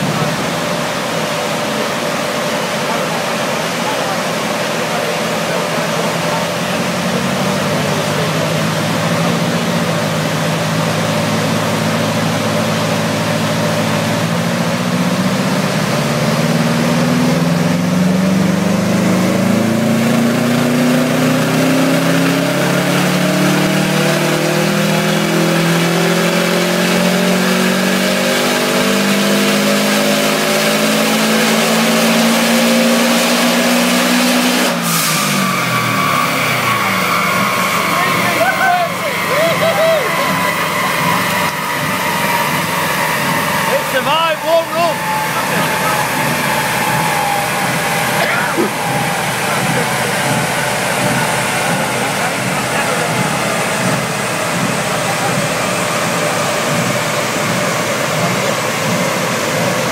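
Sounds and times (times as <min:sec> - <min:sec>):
turbocharged car engine revving: 0:00.0 - 0:59.9.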